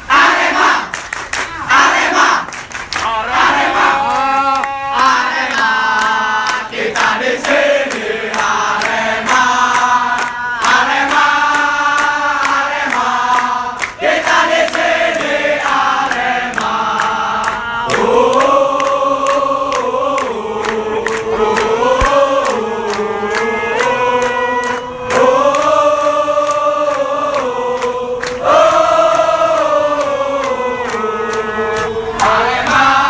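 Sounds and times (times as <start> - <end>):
crowd chanting in unison: 0.0 - 33.0.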